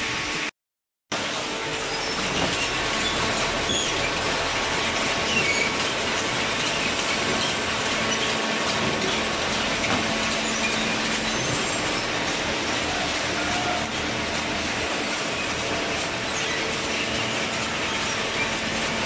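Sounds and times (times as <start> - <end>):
baler machine running: 1.2 - 19.0.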